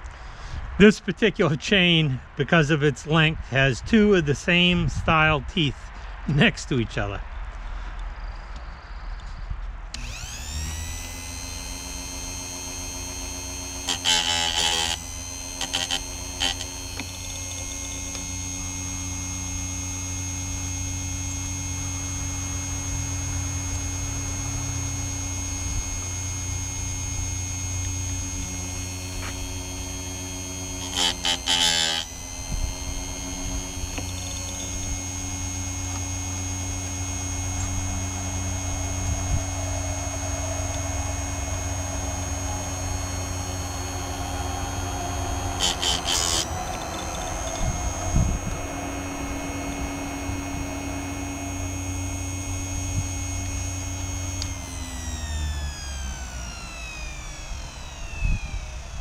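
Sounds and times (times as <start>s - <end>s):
sharpener motor whining and humming: 9.9s - 59.0s
grinding wheel grinding chain: 10.0s - 58.0s.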